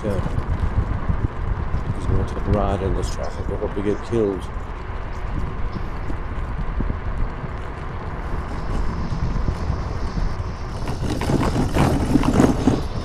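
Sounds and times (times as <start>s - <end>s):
city traffic: 0.0s - 13.0s
road and tyre noise: 0.0s - 13.0s
wind rumble on microphone: 0.0s - 13.0s.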